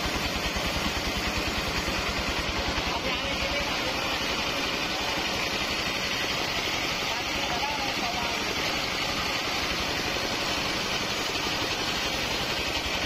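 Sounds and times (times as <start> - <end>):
sawmill engine pulsing: 0.0 - 13.0.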